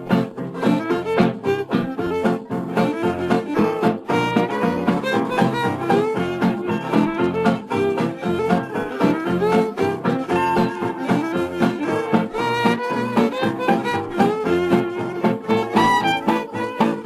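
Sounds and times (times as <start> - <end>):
swing jazz band playing: 0.0 - 17.0.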